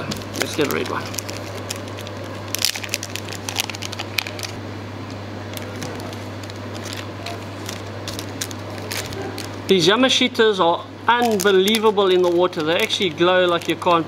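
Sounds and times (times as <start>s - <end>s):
plastic packet crinkling: 0.0s - 4.6s, 5.5s - 9.6s, 11.2s - 14.0s
steady low hum: 0.0s - 14.0s.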